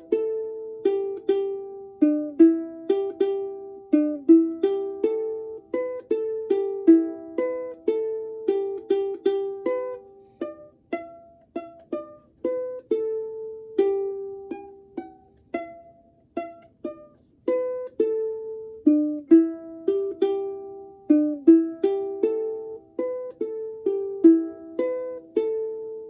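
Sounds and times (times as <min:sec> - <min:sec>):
ukulele plucked melody: 0:00.0 - 0:26.0.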